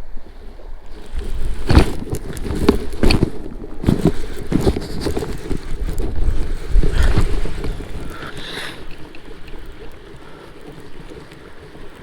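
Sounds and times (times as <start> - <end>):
wind buffeting microphone: 0.8 - 12.0
brief rustling: 0.9 - 11.8.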